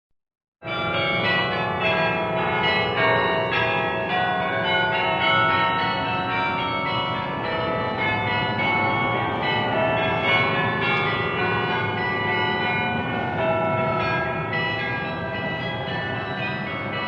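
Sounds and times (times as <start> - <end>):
church bells ringing a tune: 0.6 - 17.0.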